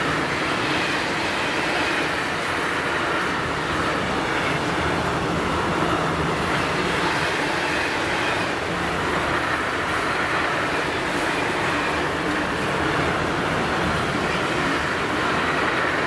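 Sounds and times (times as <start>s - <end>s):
freight train wheels on rails: 0.0s - 16.0s.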